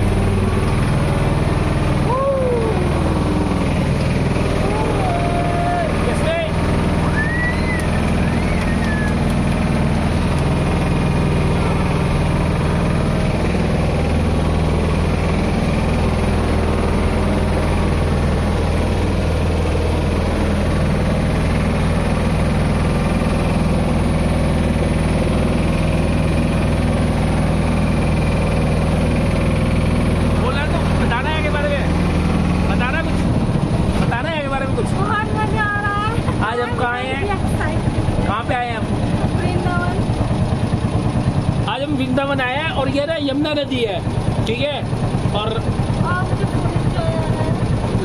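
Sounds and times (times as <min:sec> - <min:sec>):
motorboat engine droning: 0:00.0 - 0:48.0
water rushing along hull: 0:00.0 - 0:48.0.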